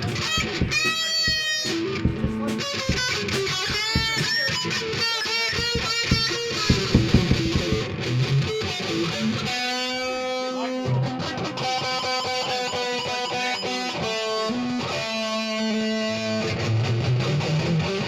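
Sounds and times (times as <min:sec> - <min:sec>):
electric guitar long notes: 0:00.0 - 0:18.0
rock band playing: 0:00.0 - 0:18.0.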